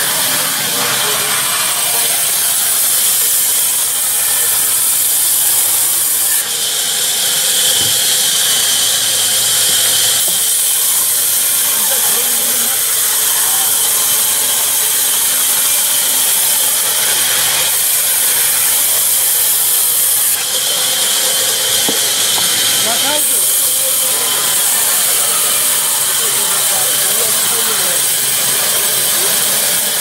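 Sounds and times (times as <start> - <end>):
band saw cutting timber: 0.0 - 30.0.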